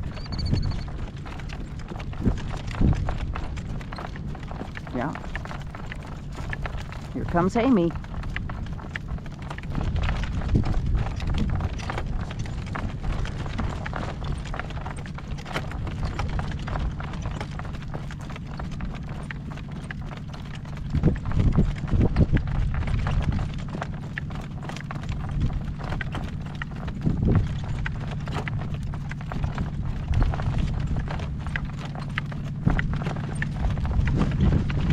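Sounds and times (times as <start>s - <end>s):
horse hooves clip-clopping: 0.0s - 34.9s
wind buffeting microphone: 0.0s - 34.9s.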